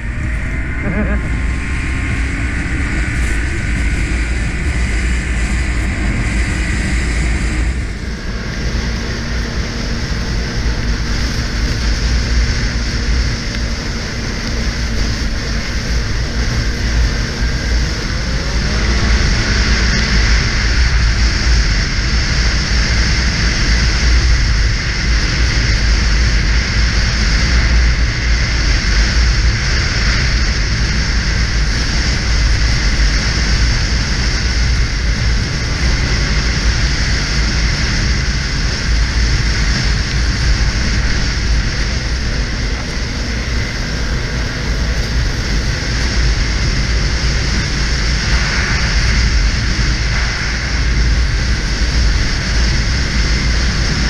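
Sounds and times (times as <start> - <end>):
snowmobile engine and track noise: 0.0 - 54.0
wind buffeting microphone: 0.0 - 54.0.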